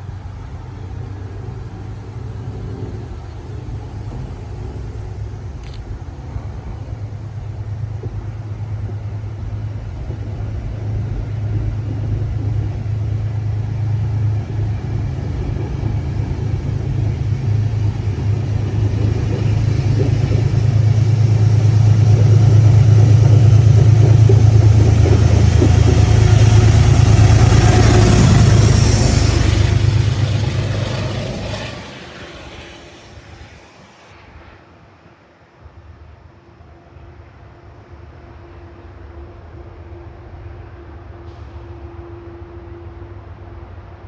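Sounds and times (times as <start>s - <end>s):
diesel train engine drone: 0.0s - 44.0s.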